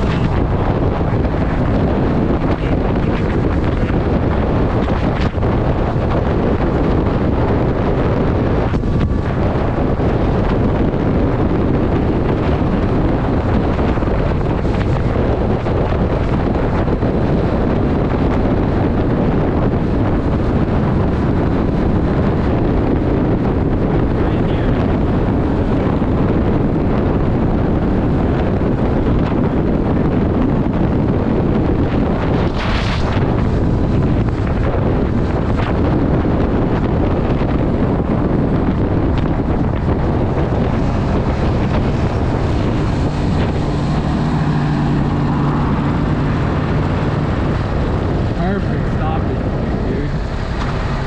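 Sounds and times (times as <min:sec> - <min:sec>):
motorcycle running: 0:00.0 - 0:51.0
wind noise on microphone: 0:00.0 - 0:51.0.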